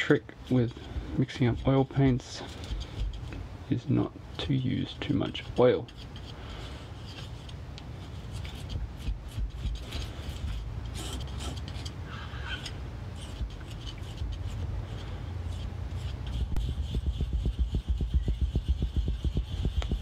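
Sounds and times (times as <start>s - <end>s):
steady low rumble: 0.0s - 20.0s
palette knife scraping on marble: 0.4s - 3.4s, 5.0s - 20.0s.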